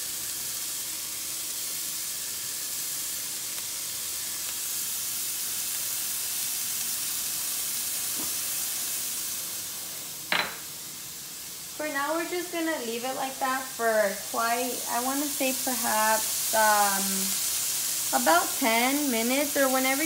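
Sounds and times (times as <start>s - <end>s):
sausage sizzling in a frying pan: 0.0s - 20.0s.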